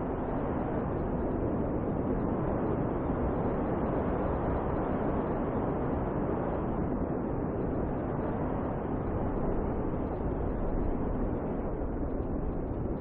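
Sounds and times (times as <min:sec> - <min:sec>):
snowstorm wind blowing: 0:00.0 - 0:13.0.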